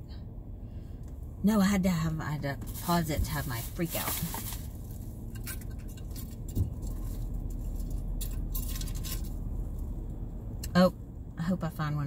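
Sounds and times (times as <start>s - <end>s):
low hum inside a car: 0.0s - 12.0s.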